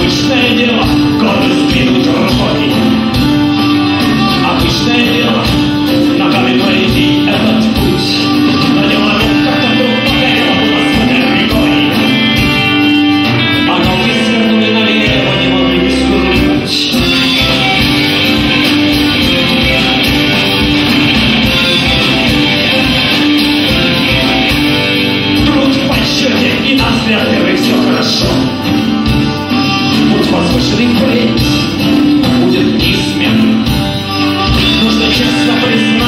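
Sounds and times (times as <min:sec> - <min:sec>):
accordion: 0:00.0 - 0:36.0
acoustic guitar: 0:00.0 - 0:36.0
drum kit: 0:00.0 - 0:36.0
electric bass: 0:00.0 - 0:36.0
electric guitar: 0:00.0 - 0:36.0.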